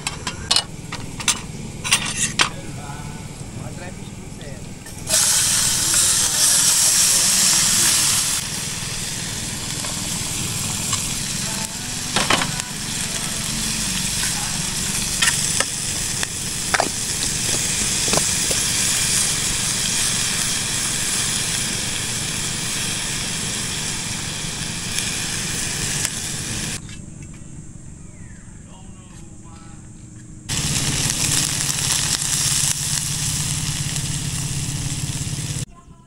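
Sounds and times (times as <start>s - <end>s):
steady hiss: 0.0s - 26.8s, 30.5s - 35.7s.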